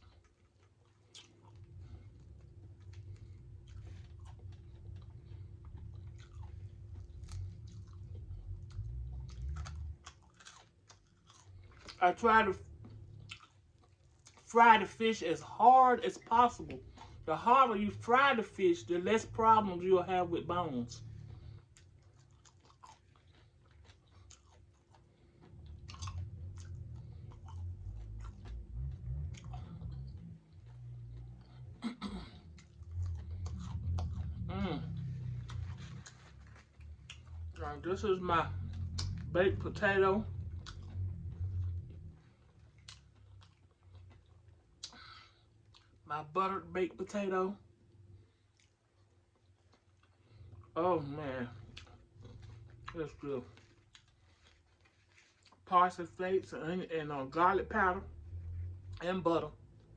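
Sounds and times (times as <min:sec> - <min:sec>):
chewing and crunching fried fish: 0:00.0 - 0:59.9.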